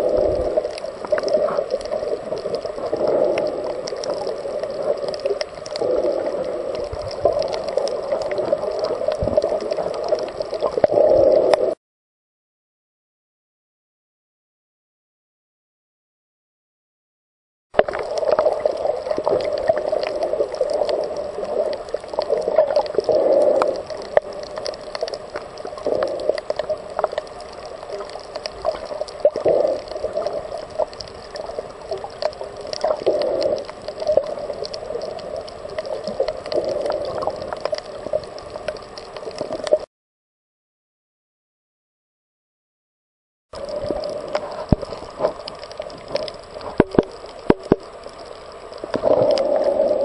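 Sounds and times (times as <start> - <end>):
small clicks and crackles: 0.0 - 11.8, 17.8 - 39.9, 43.6 - 50.0
underwater gurgling and sloshing: 0.0 - 11.8, 17.8 - 39.9, 43.6 - 50.0.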